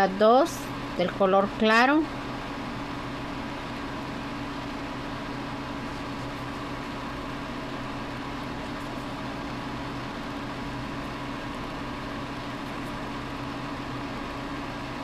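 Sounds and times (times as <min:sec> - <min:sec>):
steady hum and hiss: 0:00.0 - 0:15.0.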